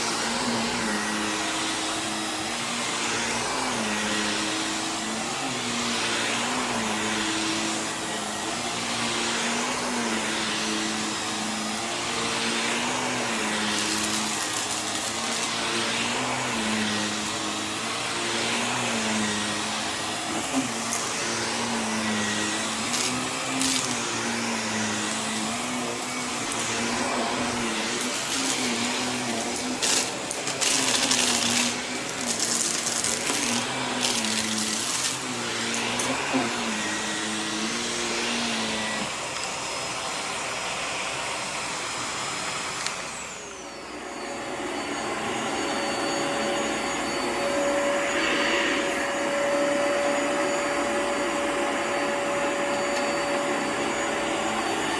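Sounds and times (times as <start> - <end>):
vacuum cleaner running over rug: 0.0 - 54.9.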